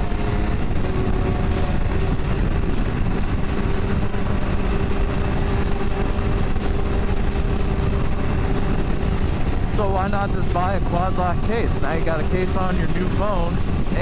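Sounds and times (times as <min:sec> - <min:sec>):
motorcycle engine cruising: 0:00.0 - 0:14.0
wind rush on microphone: 0:00.0 - 0:14.0.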